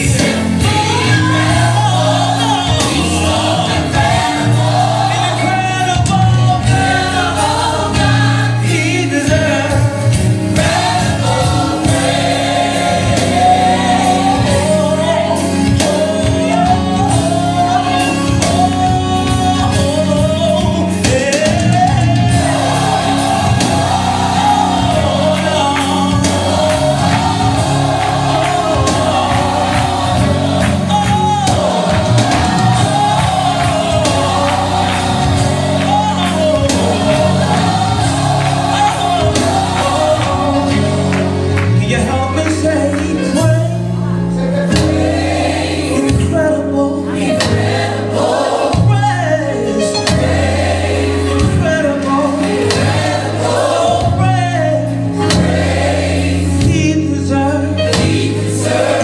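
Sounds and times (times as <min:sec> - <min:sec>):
choir singing gospel: 0:00.0 - 0:59.0
instrumental accompaniment: 0:00.0 - 0:59.0.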